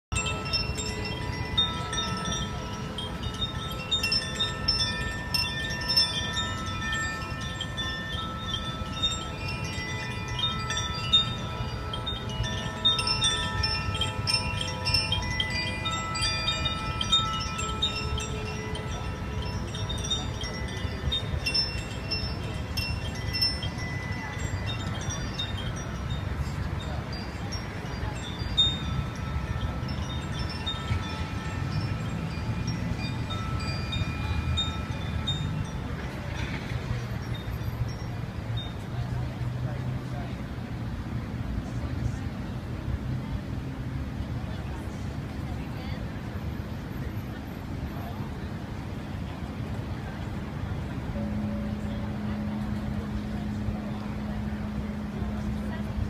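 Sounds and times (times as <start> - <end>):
bell-like chiming tones: 0.1 - 40.4, 47.0 - 56.0.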